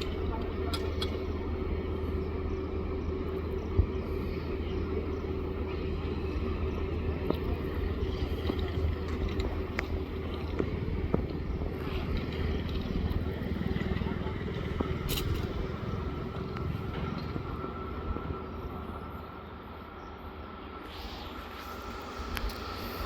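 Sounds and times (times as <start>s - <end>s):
train running: 0.0s - 23.0s.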